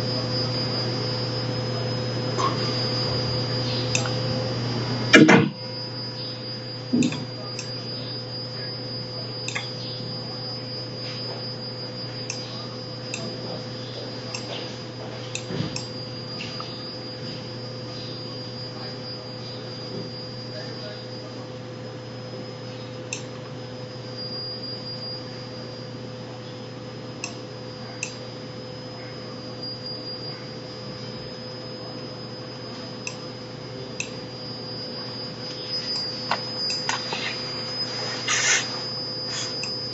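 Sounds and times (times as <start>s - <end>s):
electrical hum: 0.0s - 39.9s
high-pitched whine: 0.0s - 39.9s.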